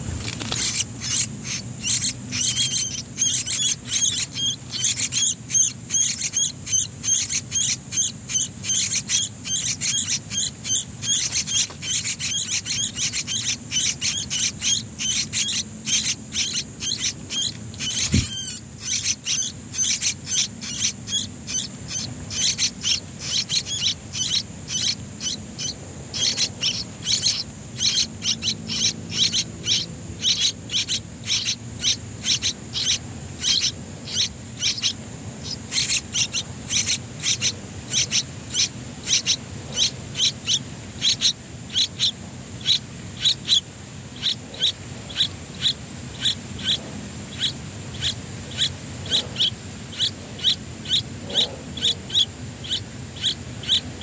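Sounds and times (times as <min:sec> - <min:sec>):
nestlings cheeping: 0:00.0 - 0:54.0.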